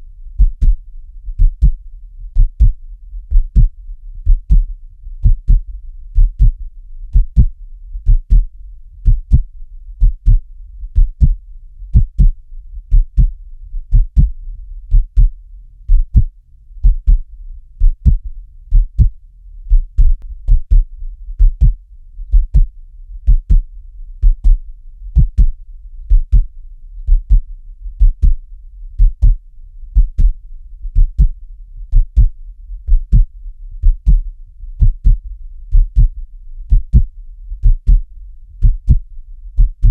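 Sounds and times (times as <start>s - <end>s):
faint low rumble: 0.0s - 39.9s
heartbeat double thump: 0.4s - 0.8s, 1.4s - 13.3s, 13.9s - 24.6s, 25.2s - 28.4s, 29.0s - 29.4s, 30.0s - 34.2s, 34.8s - 39.9s.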